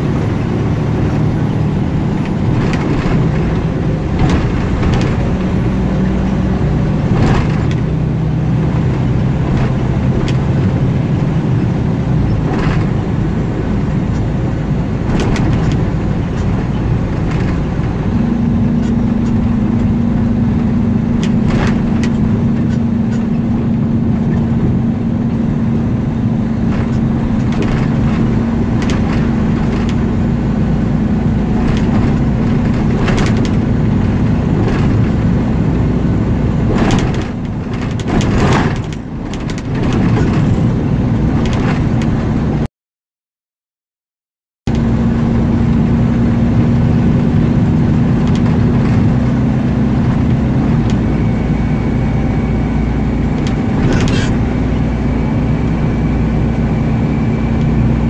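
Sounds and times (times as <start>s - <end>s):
car engine and tyre noise: 0.0s - 42.7s, 44.7s - 58.0s.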